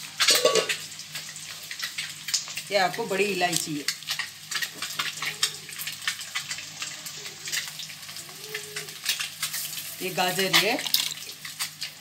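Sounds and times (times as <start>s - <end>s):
water simmering in a pot: 0.0s - 12.0s.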